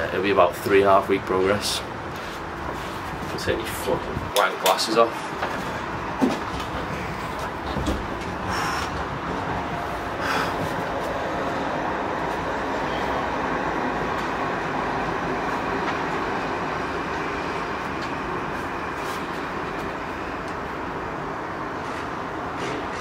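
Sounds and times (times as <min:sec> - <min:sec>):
city road traffic: 0:00.0 - 0:23.0.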